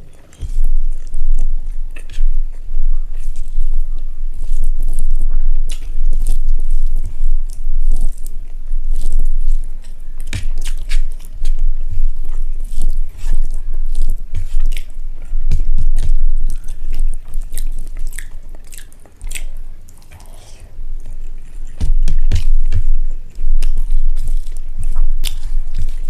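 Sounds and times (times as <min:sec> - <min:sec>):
close chewing with mouth clicks: 0:00.0 - 0:26.0.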